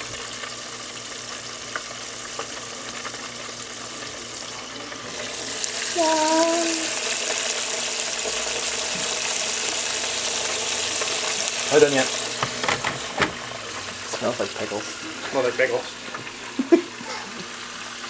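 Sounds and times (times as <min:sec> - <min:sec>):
deep-frying sizzle: 0:00.0 - 0:18.0.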